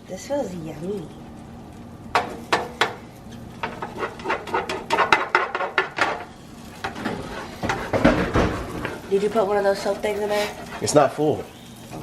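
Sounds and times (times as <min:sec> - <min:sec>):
utensil scraping against cookware: 0:02.2 - 0:12.0.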